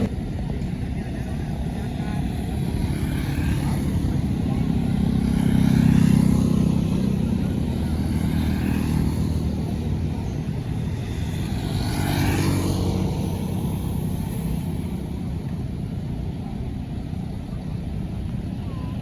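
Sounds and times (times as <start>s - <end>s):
diesel bus engine rumble: 0.0s - 11.8s, 12.8s - 19.0s.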